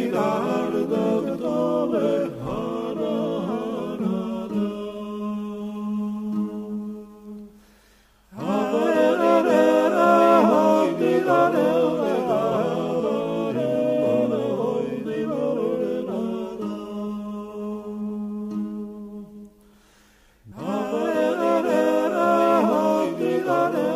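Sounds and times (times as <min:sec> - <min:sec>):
voices singing polyphony a cappella: 0:00.0 - 0:23.9.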